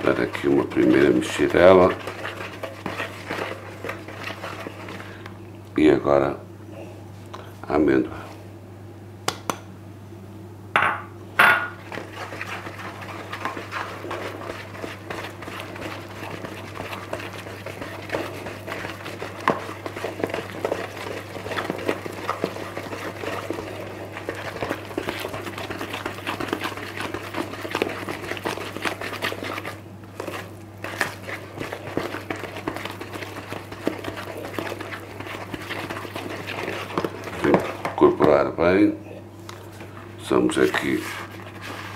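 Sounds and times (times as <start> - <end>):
utensil scraping dough in bowl: 0.0 - 5.2, 11.6 - 38.8, 39.5 - 41.9.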